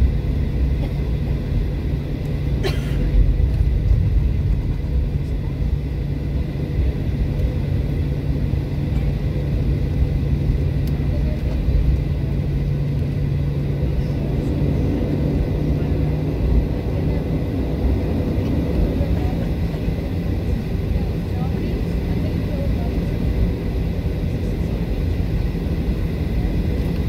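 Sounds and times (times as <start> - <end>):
jet engines humming: 0.0 - 27.0
low rumble of aircraft rolling: 0.0 - 27.0.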